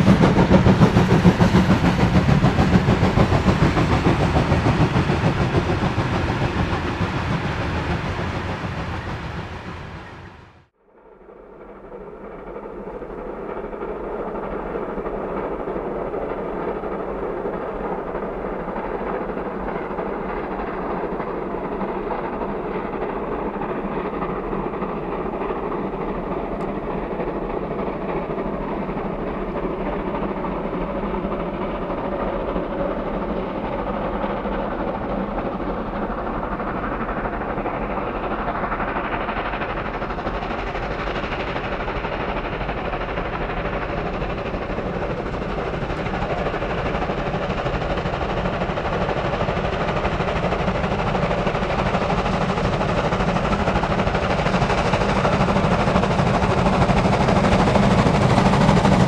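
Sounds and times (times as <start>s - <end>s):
steam train rumbling: 0.0s - 59.0s.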